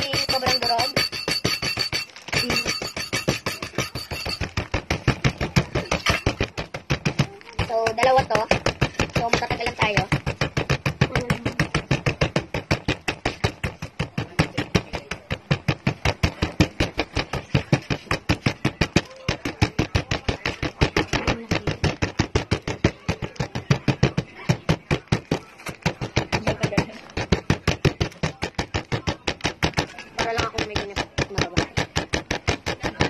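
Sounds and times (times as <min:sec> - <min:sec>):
glass pounding cookies on table: 0:00.0 - 0:33.0.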